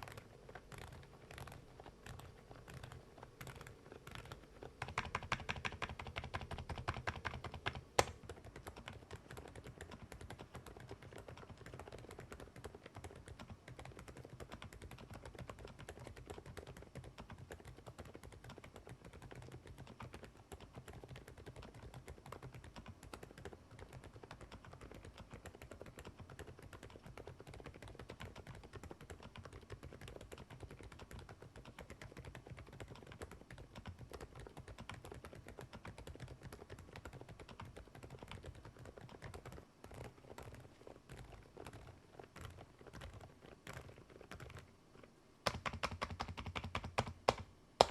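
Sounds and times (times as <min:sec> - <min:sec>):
fast typing on keyboard: 0:00.0 - 0:47.9.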